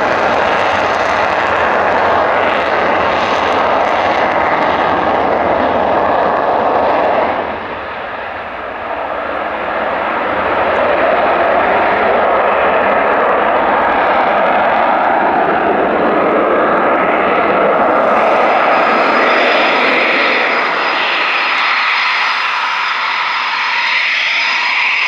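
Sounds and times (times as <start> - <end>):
jet engines rushing: 0.0 - 25.0.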